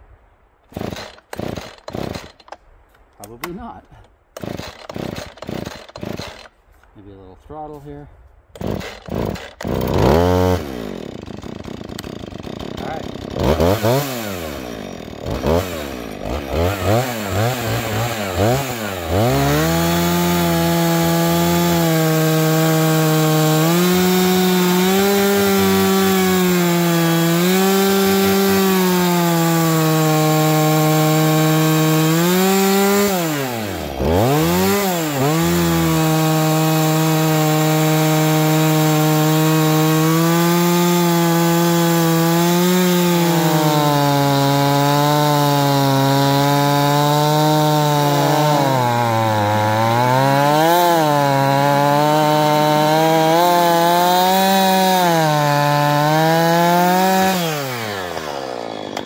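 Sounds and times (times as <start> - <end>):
chainsaw cutting log: 0.7 - 2.6, 4.3 - 6.6, 8.6 - 59.0.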